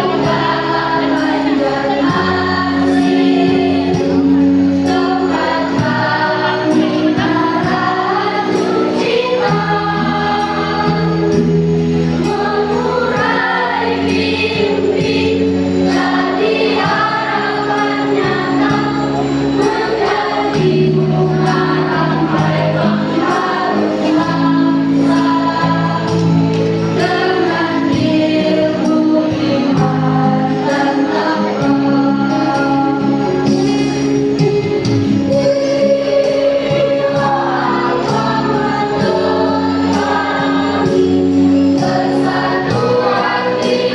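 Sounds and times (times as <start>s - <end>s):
choir singing: 0.0s - 43.9s
instrumental accompaniment with beat: 0.0s - 43.9s.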